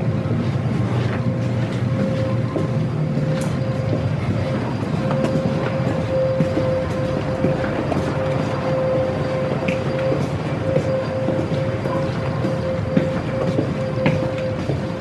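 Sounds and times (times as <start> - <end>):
mechanical rumble: 0.0 - 15.0
mid-pitched hum: 0.0 - 15.0.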